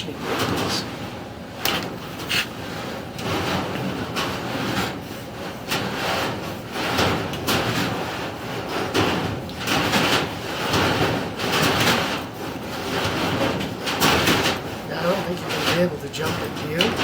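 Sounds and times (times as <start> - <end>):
cable scraping inside metal duct: 1.7 - 17.0.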